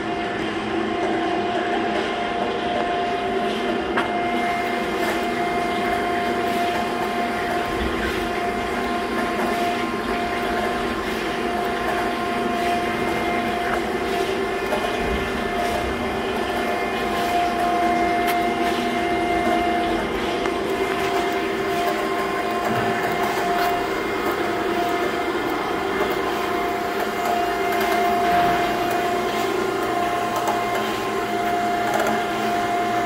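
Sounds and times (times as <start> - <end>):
surface grinder running: 0.0 - 33.0.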